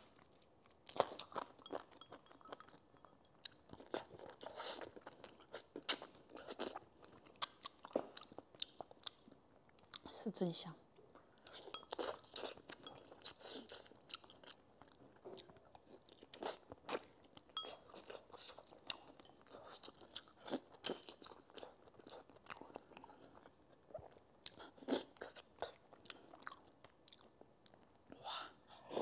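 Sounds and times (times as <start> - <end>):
person chewing: 0.1 - 10.0, 10.9 - 29.0.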